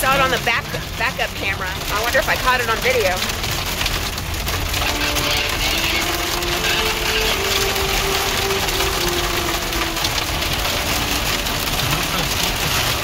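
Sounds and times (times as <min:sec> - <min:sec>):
rain on car roof: 0:00.0 - 0:13.0.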